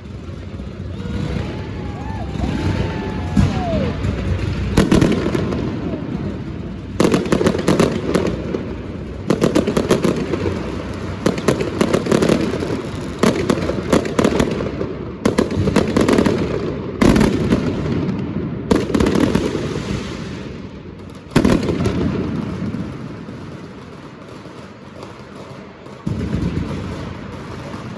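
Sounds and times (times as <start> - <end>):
fireworks bangs and crackles: 0.0 - 27.9.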